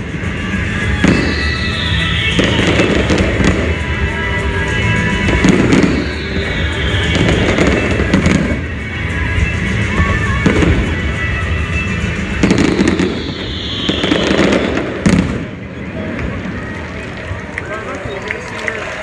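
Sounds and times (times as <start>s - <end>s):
deep fireworks booms: 0.0s - 16.6s
fireworks bangs and crackle: 0.0s - 18.8s
music: 0.0s - 19.0s.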